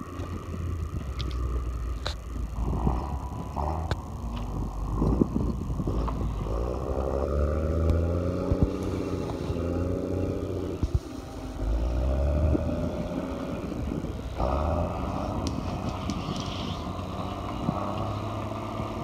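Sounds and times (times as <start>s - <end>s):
machine engine rumbling: 0.0s - 19.0s.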